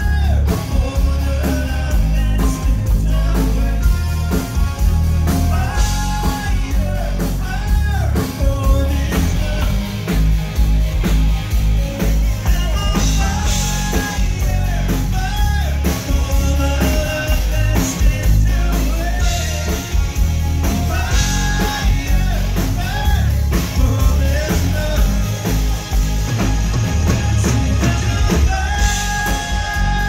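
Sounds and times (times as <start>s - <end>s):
man singing: 0.0s - 10.3s, 12.2s - 30.0s
bass: 0.0s - 30.0s
drum kit: 0.0s - 30.0s
electric guitar: 0.0s - 30.0s
keyboards: 0.0s - 30.0s.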